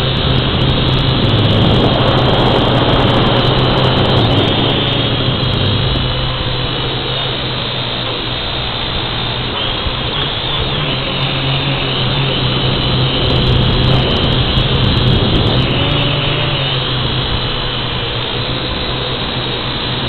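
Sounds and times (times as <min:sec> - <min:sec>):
low motor hum: 0:00.0 - 0:20.0
wind rushing over microphone: 0:00.0 - 0:20.0.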